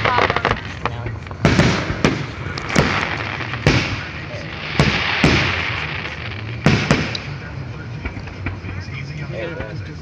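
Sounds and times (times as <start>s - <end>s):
fireworks booms: 0.0s - 9.8s
fireworks crackle: 0.0s - 10.0s.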